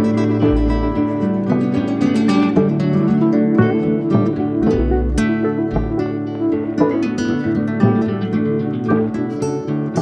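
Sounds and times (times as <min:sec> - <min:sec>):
acoustic guitar plucking: 0:00.0 - 0:10.0.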